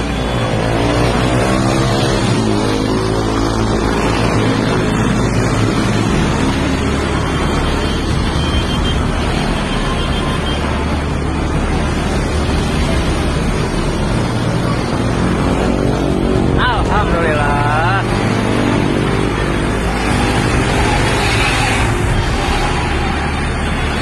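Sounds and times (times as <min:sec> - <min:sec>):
heavy road traffic: 0:00.0 - 0:24.0.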